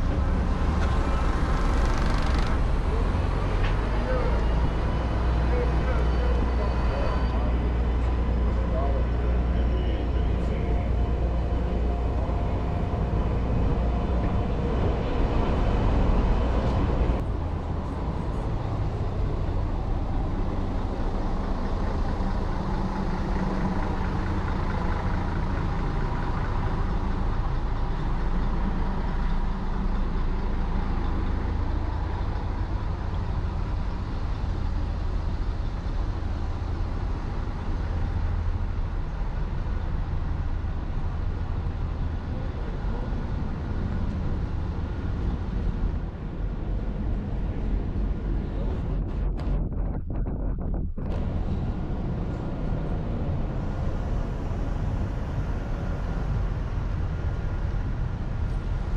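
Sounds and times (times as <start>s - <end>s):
engine humming: 0.0s - 58.9s
low rumble of passing vehicles: 0.0s - 58.9s.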